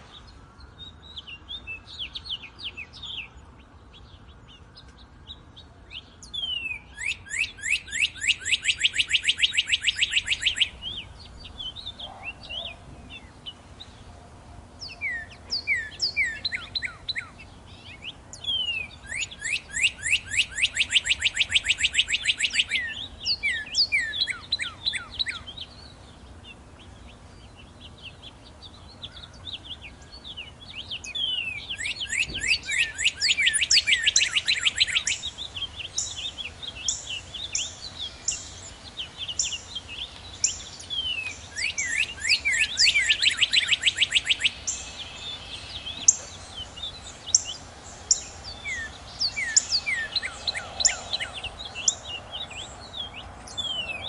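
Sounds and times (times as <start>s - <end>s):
cardinals singing trills: 0.0s - 54.0s.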